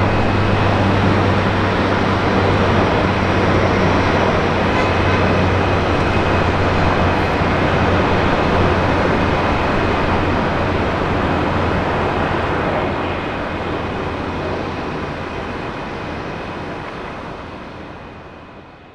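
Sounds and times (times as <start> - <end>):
jet engines roaring with whine: 0.0 - 18.9.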